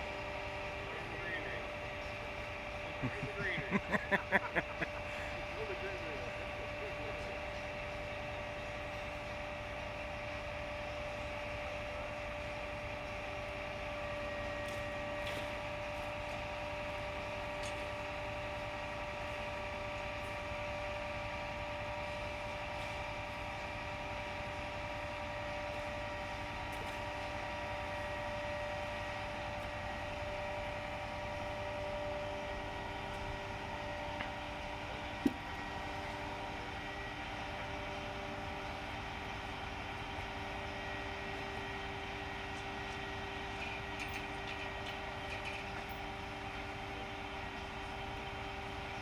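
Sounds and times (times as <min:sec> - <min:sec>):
mechanical hum with whining tones: 0:00.0 - 0:49.0.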